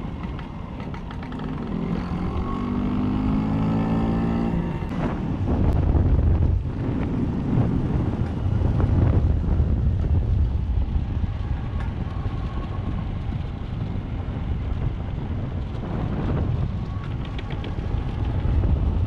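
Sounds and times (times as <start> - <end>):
scooter engine running: 0.0 - 19.0
wind buffeting microphone: 0.0 - 19.0.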